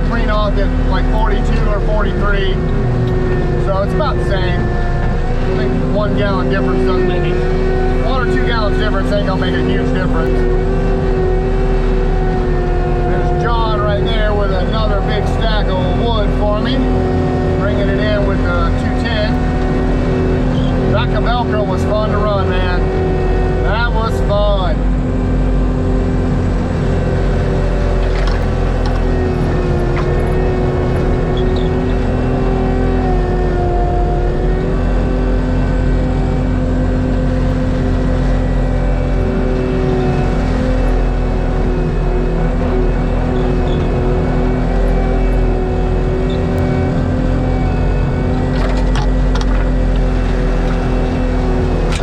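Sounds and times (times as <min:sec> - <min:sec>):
diesel engine running at high throttle: 0:00.0 - 0:52.0
mulcher head whining: 0:00.0 - 0:52.0.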